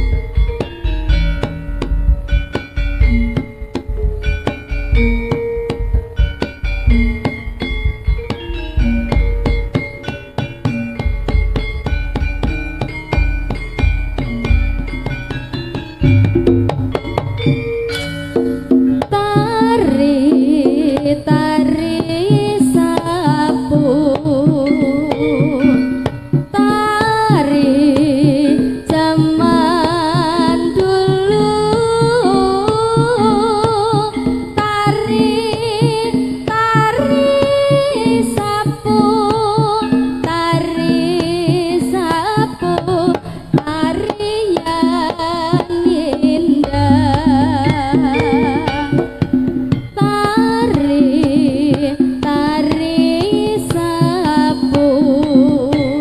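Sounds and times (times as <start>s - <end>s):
lead melody with heavy vibrato: 0.0s - 43.9s, 45.0s - 56.0s
drumming: 0.0s - 56.0s
gamelan tones: 0.0s - 56.0s.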